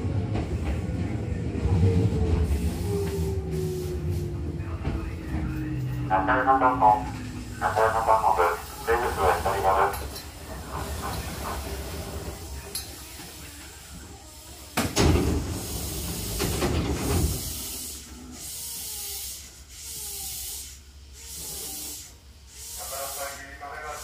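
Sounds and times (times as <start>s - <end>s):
train doors clunk and hiss: 2.2s - 24.0s.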